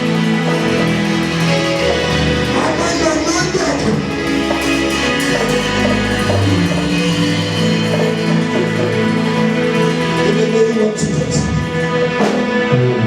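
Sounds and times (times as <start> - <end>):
electric guitar: 0.0 - 13.0
worship band playing: 0.0 - 13.0.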